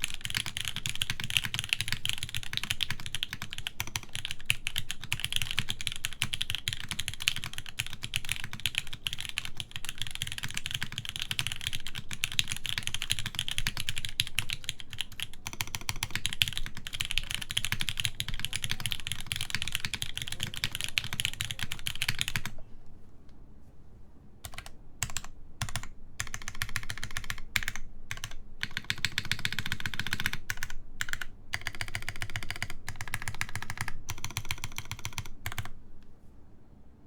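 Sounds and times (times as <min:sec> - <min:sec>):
typing on mechanical keyboard: 0:00.0 - 0:22.6, 0:24.4 - 0:35.8.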